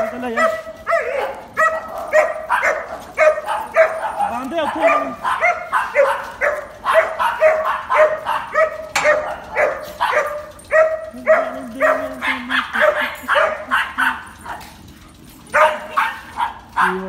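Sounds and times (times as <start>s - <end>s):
dog barking: 0.0s - 14.7s, 15.5s - 17.0s.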